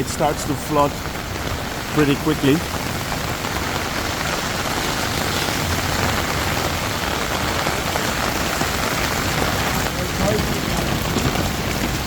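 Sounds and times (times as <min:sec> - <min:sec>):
heavy rain on street: 0:00.0 - 0:12.0.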